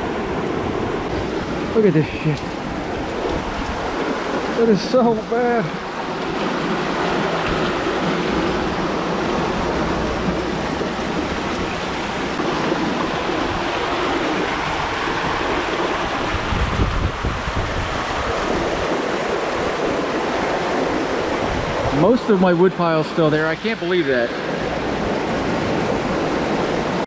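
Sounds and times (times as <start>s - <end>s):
floodwater rushing: 0.0s - 27.0s
heavy rain: 0.0s - 27.0s
wind buffeting microphone: 0.0s - 27.0s.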